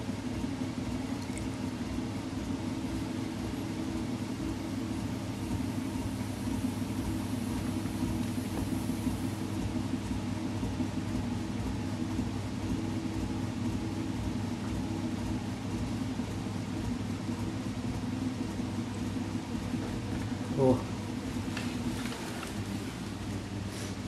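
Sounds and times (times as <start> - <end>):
potter's wheel motor humming: 0.0 - 24.0.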